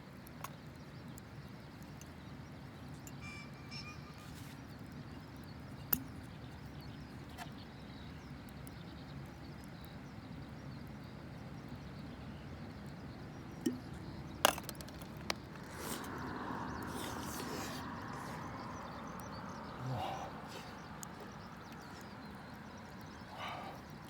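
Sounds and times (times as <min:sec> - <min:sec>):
wood campfire crackling: 0:04.4 - 0:24.0.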